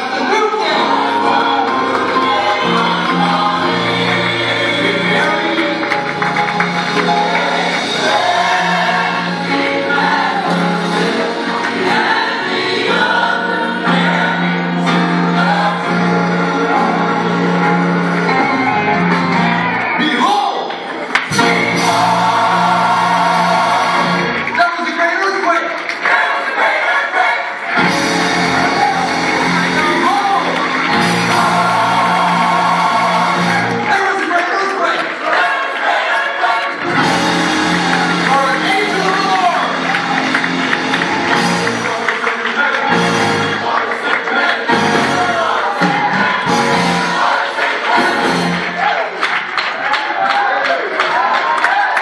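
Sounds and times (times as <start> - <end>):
gospel choir singing: 0.0 - 24.6, 25.8 - 52.0
band accompaniment: 0.0 - 50.5.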